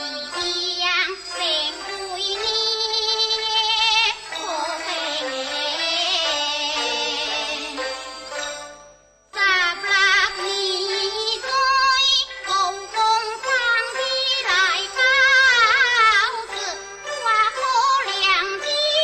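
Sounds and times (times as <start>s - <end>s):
high voice singing opera: 0.0s - 8.0s, 9.4s - 19.0s
instrumental accompaniment: 0.0s - 19.0s.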